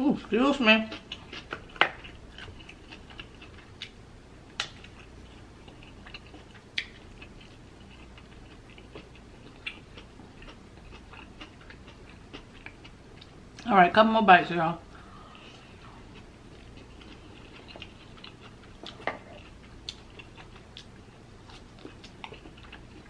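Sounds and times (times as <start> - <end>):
person chewing food: 0.9 - 13.6, 15.0 - 23.0.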